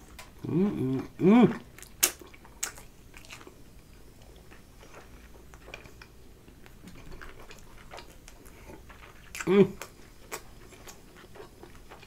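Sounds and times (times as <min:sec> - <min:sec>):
person chewing food: 0:00.0 - 0:12.0
faint small clicks and crackles: 0:01.8 - 0:12.0.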